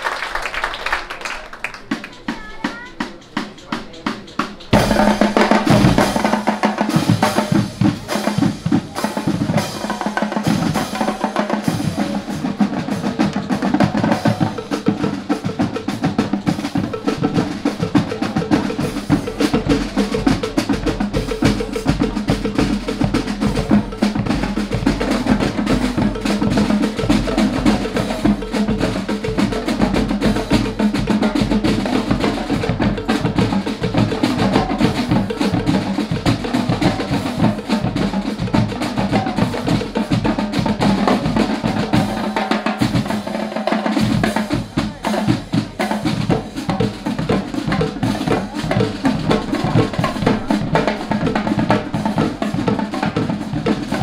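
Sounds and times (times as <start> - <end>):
band holding notes: 1.1 - 54.0
snare and bass drums playing: 1.8 - 54.0.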